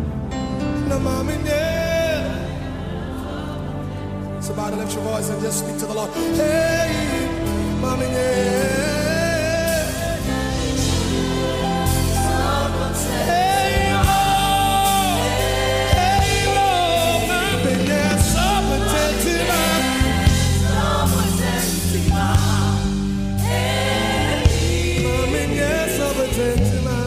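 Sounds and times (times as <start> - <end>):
steady bass line: 0.0 - 27.0
voices singing held notes: 2.2 - 26.9.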